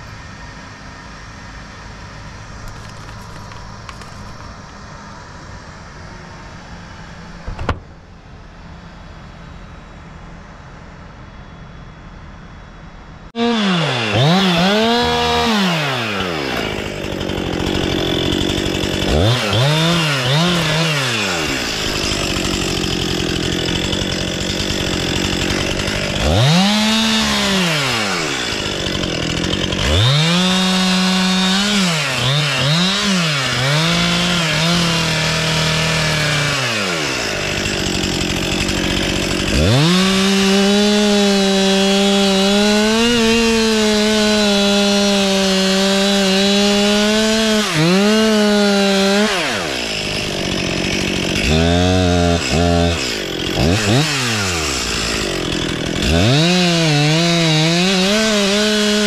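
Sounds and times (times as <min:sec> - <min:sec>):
chainsaw cutting wood: 0:02.6 - 0:04.8, 0:13.4 - 0:59.0.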